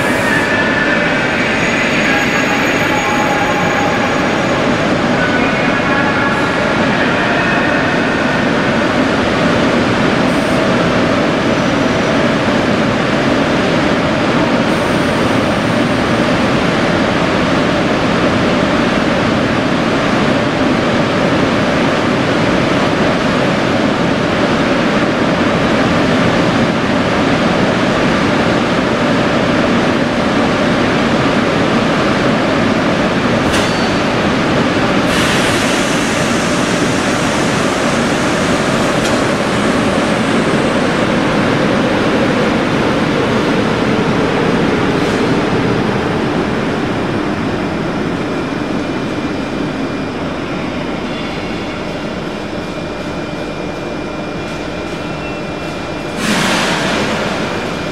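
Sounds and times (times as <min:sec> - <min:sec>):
train rushing noise: 0:00.0 - 0:57.9.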